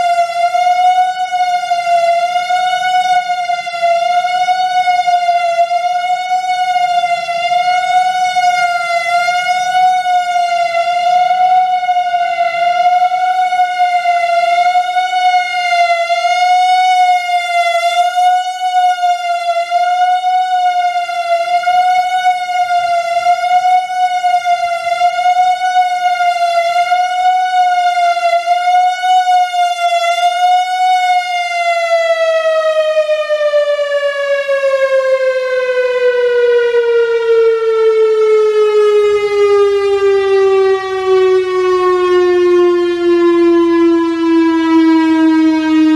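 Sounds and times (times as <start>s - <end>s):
warning siren wavering tone: 0.0s - 45.9s.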